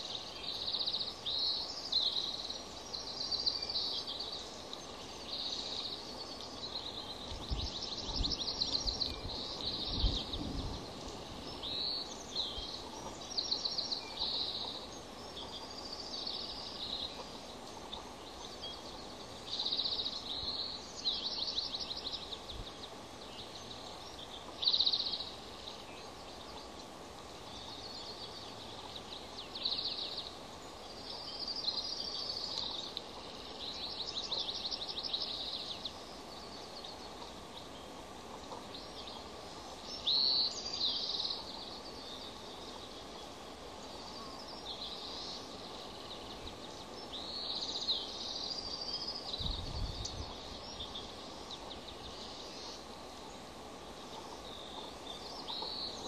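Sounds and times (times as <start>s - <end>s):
birds chittering trills: 0.0s - 56.0s
steady outdoor hiss: 0.0s - 56.0s.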